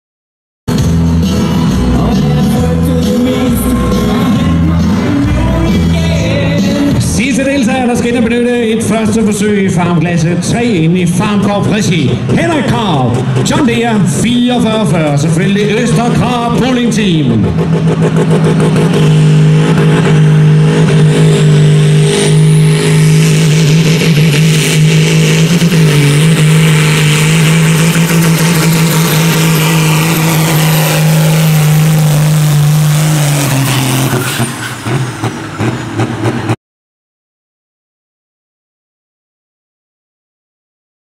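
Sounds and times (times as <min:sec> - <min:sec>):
tractor diesel engine under load: 0:00.7 - 0:36.6.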